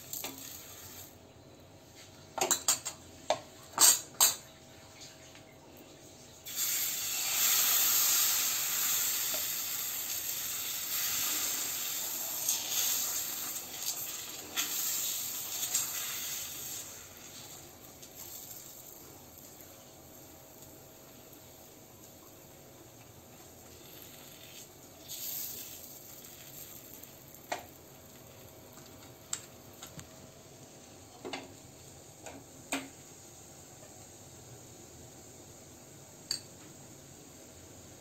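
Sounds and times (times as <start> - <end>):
batter sizzling in a frying pan: 0.0 - 1.2, 6.4 - 38.0.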